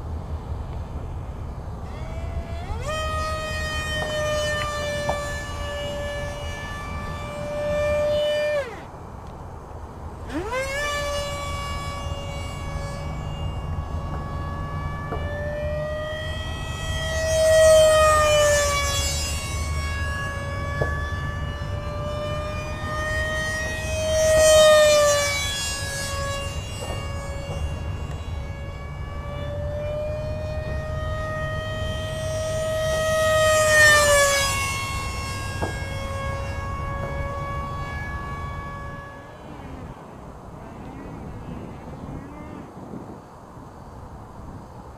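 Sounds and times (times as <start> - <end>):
electric ducted fan whining: 0.0 - 44.9.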